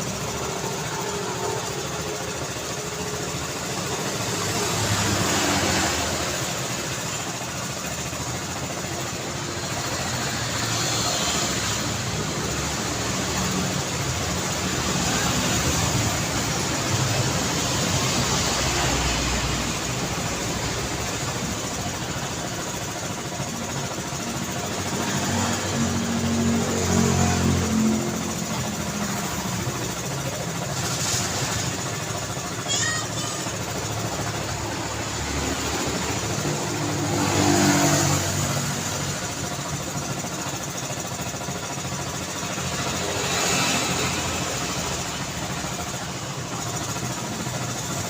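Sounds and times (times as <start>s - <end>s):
street traffic: 0.0s - 48.0s.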